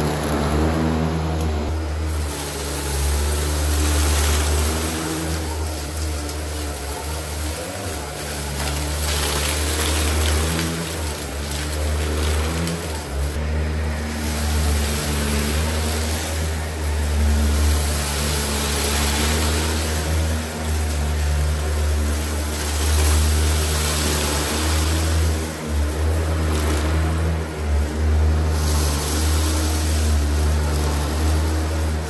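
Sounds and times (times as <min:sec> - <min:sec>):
vacuum cleaner on carpet: 0:00.0 - 0:32.0.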